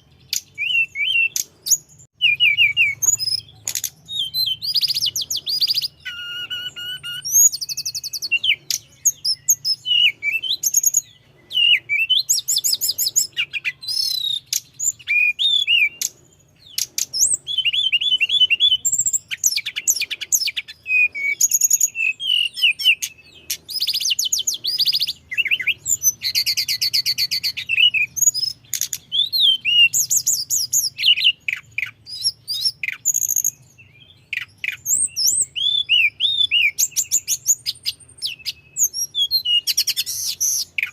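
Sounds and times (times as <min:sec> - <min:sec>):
songbird singing: 0:00.0 - 0:40.9
fast rattling bird trill: 0:00.2 - 0:33.7, 0:34.3 - 0:40.9.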